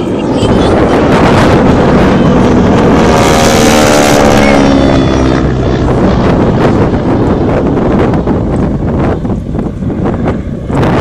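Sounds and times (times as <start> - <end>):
propeller plane droning overhead: 0.0 - 11.0
wind rumble on microphone: 0.0 - 11.0.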